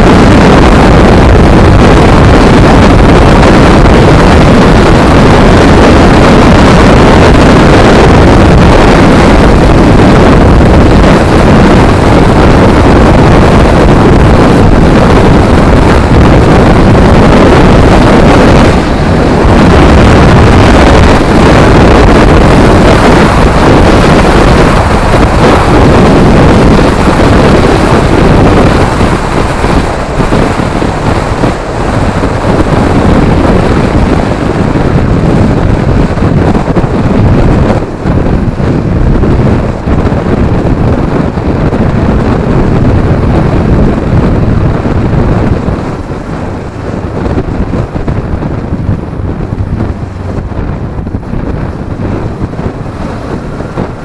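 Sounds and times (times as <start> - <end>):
motorcycle engine: 0.0 - 54.0
wind rush on microphone: 0.0 - 54.0.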